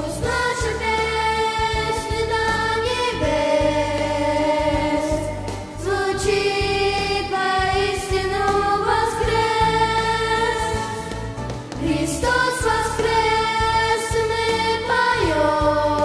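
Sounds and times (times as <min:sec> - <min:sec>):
children singing into microphones: 0:00.0 - 0:11.1, 0:11.8 - 0:16.0
instrumental accompaniment: 0:00.0 - 0:16.0.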